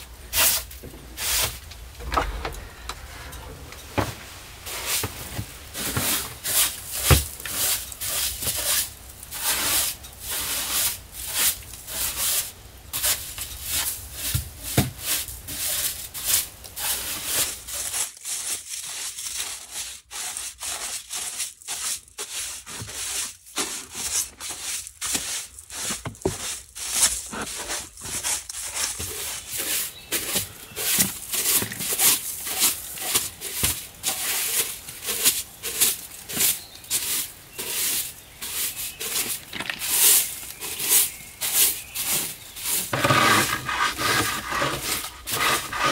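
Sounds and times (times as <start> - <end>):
broom sweeping wooden stairs: 0.0 - 45.9.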